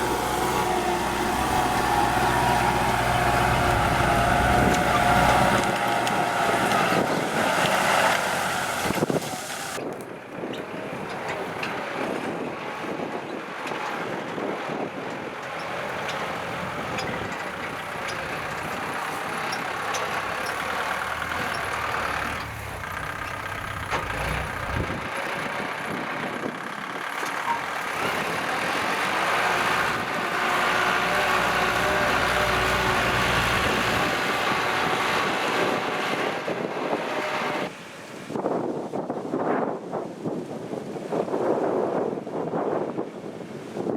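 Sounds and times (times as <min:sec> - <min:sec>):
tractor diesel engine running: 0:00.0 - 0:38.4.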